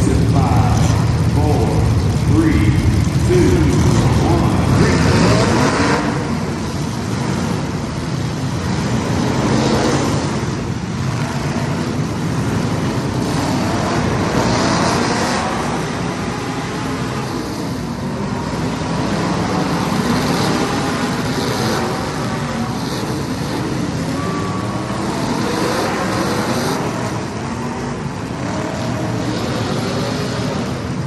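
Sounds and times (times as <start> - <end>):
race car engines passing: 0.0 - 31.0.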